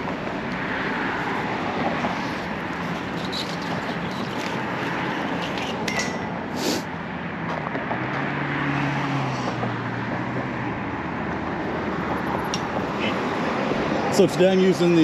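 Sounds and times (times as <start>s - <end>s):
vehicle engine hum: 0.0s - 14.1s
road traffic noise: 0.0s - 15.0s.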